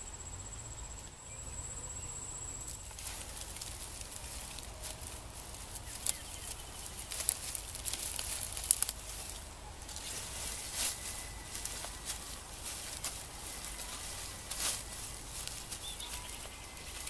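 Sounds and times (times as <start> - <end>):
branches and dry grass rustling: 2.5 - 17.0.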